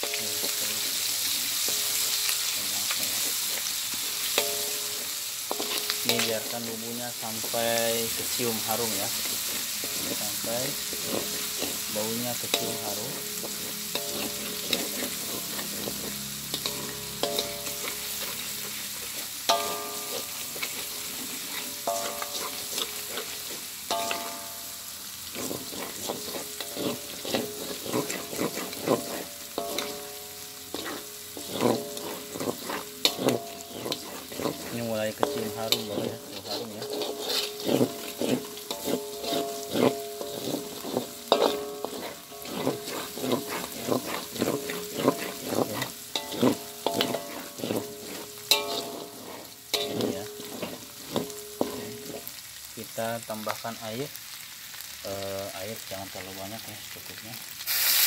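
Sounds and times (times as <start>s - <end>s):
metal spatula scraping a wok: 0.0s - 52.5s
paste sizzling in hot oil: 0.0s - 58.0s.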